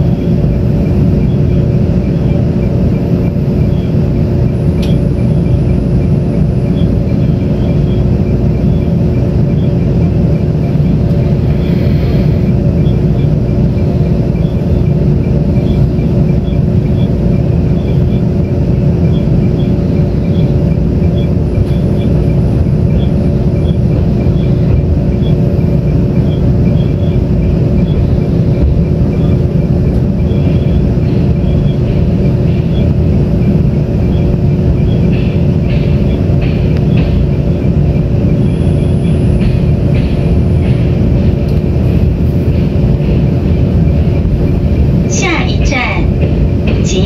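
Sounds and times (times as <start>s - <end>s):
constant hum: 0.0s - 47.0s
train wheels rumbling on track: 0.0s - 47.0s.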